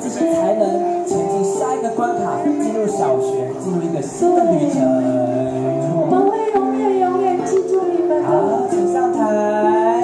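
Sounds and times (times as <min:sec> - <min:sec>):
song over loudspeaker: 0:00.0 - 0:10.0.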